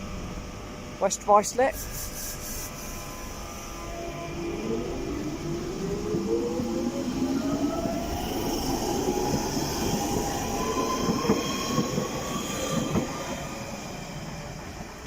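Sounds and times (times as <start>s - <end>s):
rumble of train wheels: 0.0s - 15.0s
train traction motors whining: 0.0s - 15.0s.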